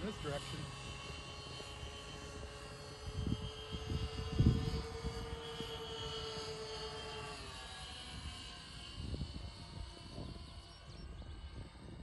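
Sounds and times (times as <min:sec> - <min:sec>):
model plane propeller hum: 0:00.0 - 0:12.0.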